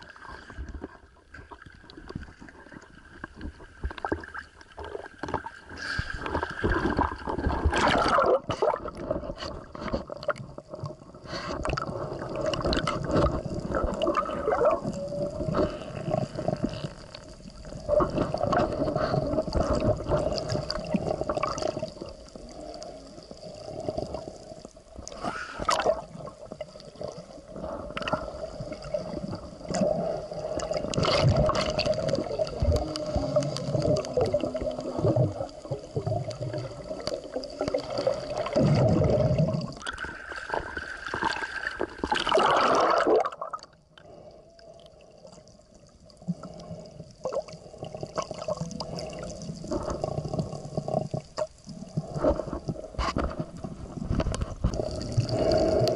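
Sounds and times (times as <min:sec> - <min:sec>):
underwater sloshing and gurgling: 0:00.0 - 0:55.9.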